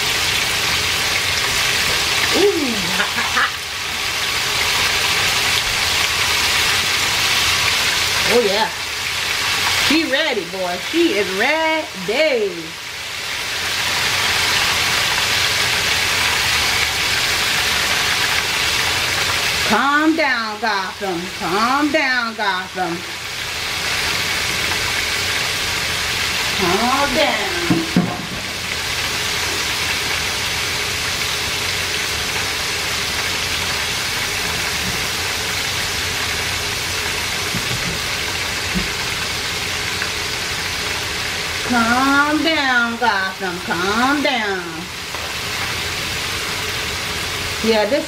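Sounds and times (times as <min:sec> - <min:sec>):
oil sizzling in deep fryer: 0:00.0 - 0:48.0.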